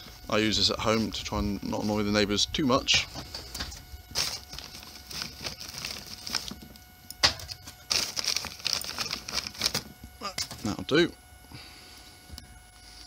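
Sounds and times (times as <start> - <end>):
coal rustling: 0.0 - 13.0.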